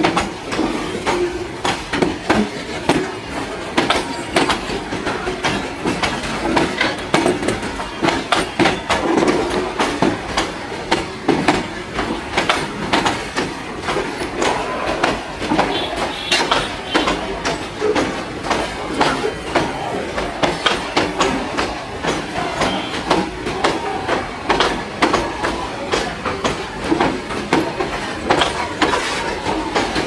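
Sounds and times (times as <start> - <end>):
freight train rumble: 0.0 - 30.0
train wheels clacking over rail joints: 0.0 - 30.0.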